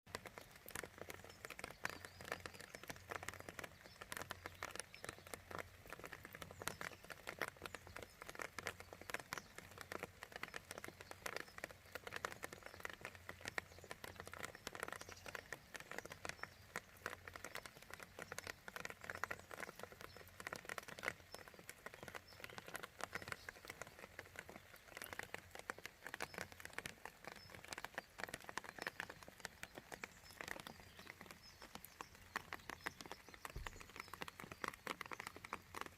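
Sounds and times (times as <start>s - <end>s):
rain patter: 0.1s - 35.9s.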